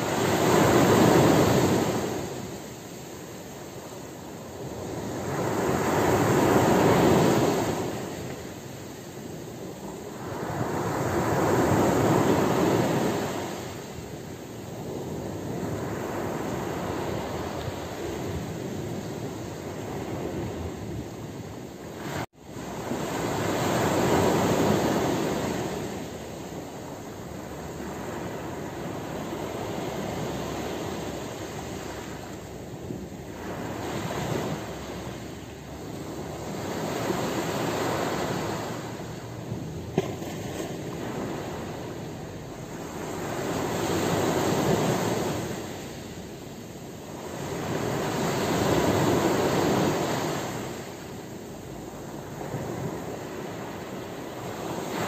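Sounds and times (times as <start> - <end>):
waves washing on pebble beach: 0.0 - 55.0.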